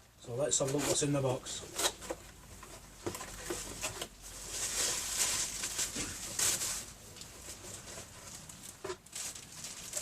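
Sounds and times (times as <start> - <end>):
packaging rustling and crinkling: 0.6 - 10.0.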